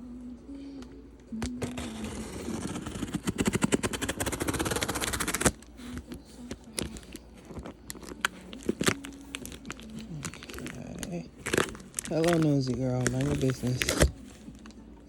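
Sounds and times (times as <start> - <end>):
scratchy clicks of cardboard packaging: 1.4 - 14.8.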